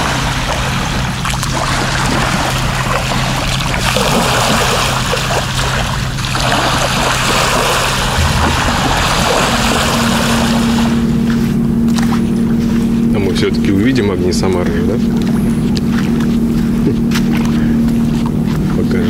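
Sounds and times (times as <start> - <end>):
outboard motor running: 0.0 - 19.0
water splashing along hull: 0.0 - 19.0.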